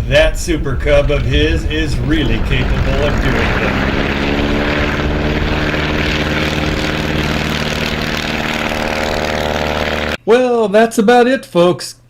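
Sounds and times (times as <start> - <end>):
light aircraft engine droning: 0.0 - 10.2.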